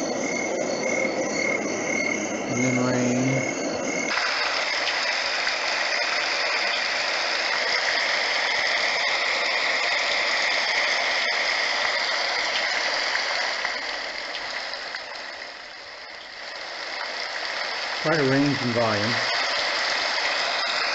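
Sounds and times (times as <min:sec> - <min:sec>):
recorded rain from small speaker: 0:00.0 - 0:20.9.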